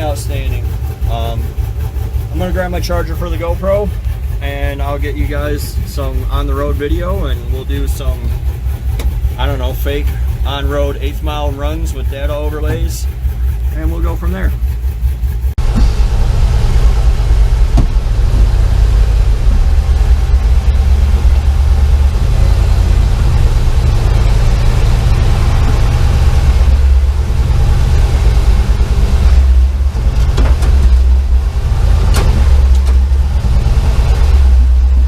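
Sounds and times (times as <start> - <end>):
engine deep low rumble: 0.0 - 35.0.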